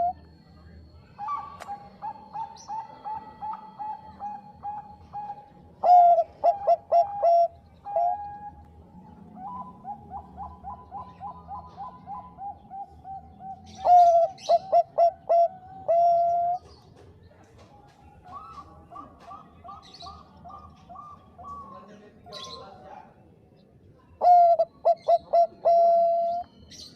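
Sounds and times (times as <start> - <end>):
dove cooing: 0.0 - 0.3, 0.9 - 16.8, 18.2 - 22.7, 24.2 - 26.9.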